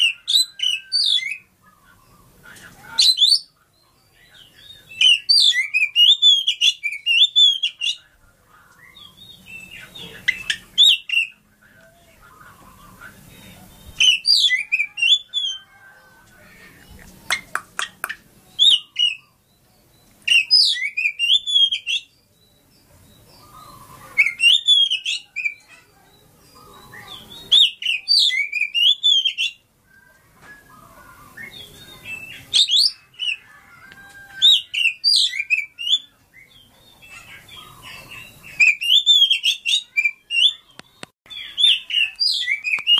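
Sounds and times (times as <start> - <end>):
magpie-robin whistling song: 0.0 - 8.1, 8.8 - 11.4, 13.7 - 42.9.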